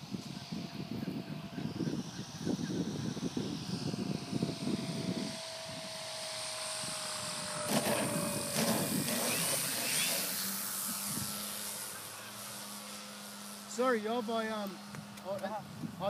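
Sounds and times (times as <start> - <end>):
wind buffeting microphone: 0.0 - 11.8, 14.8 - 16.0
model airplane motor whine: 0.0 - 16.0.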